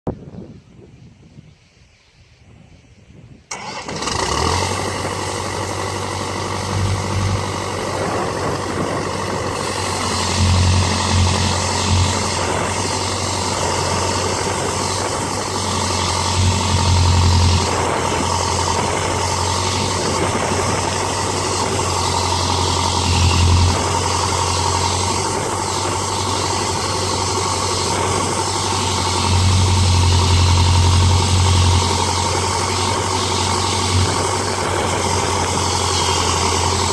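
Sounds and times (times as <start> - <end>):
sawmill engine humming: 3.5 - 36.9.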